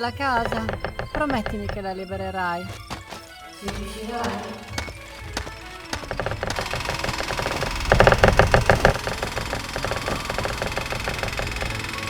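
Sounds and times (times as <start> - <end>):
rapid mechanical knocking: 0.2 - 12.0.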